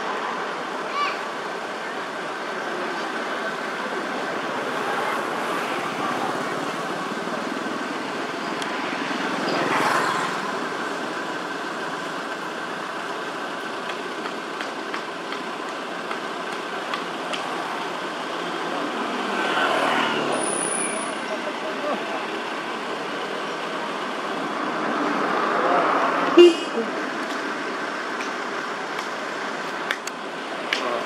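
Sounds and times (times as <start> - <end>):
road traffic: 0.0 - 31.0.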